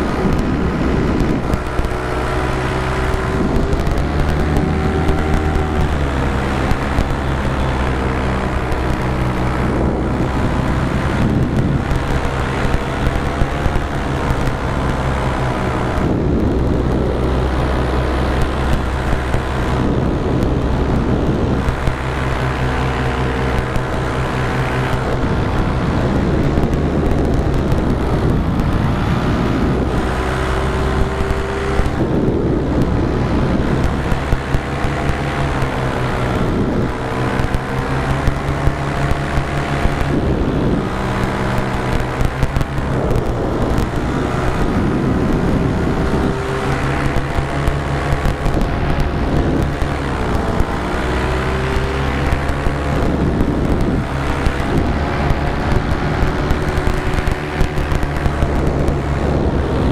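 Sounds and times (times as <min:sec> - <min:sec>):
small motor speeding up and slowing: 0:00.0 - 0:59.9.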